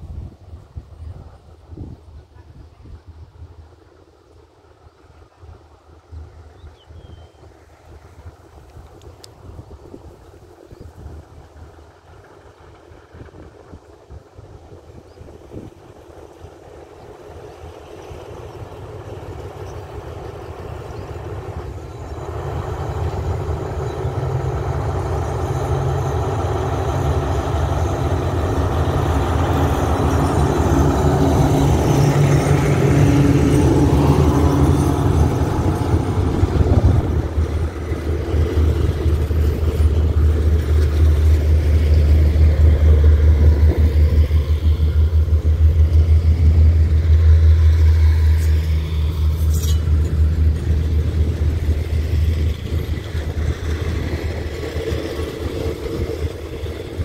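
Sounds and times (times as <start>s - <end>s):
diesel locomotive engine: 0.0s - 57.0s
train wheels rumbling on rails: 0.0s - 57.0s.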